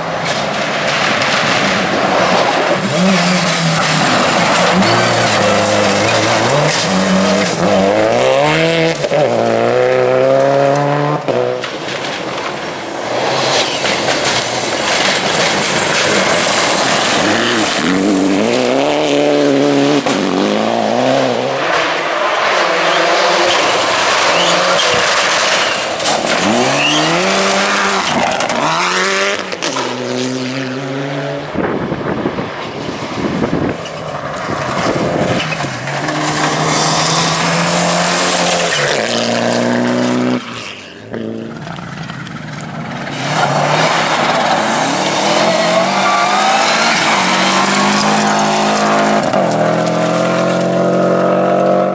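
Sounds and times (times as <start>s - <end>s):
rally car engines revving: 0.0s - 51.9s
tyre and road noise: 0.0s - 51.9s.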